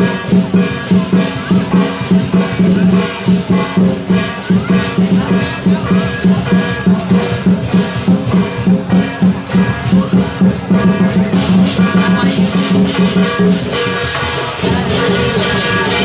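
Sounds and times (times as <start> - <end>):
big drum beating: 0.0 - 16.0
crashing cymbals: 0.0 - 16.0.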